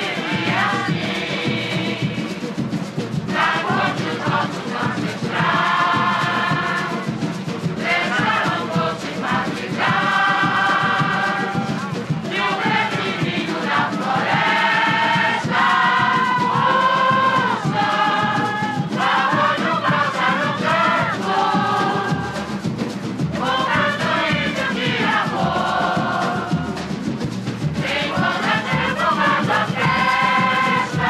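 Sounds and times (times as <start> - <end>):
chorus singing: 0.0 - 31.0
samba percussion beat: 0.0 - 31.0.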